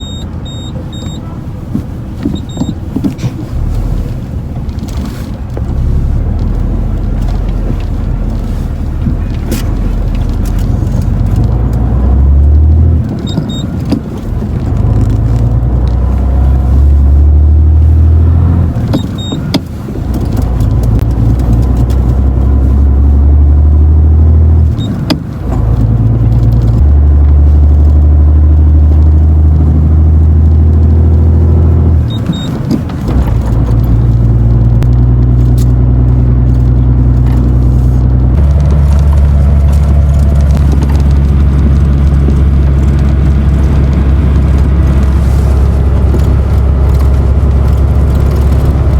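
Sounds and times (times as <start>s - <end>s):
heavy diesel engine droning: 0.0s - 48.9s.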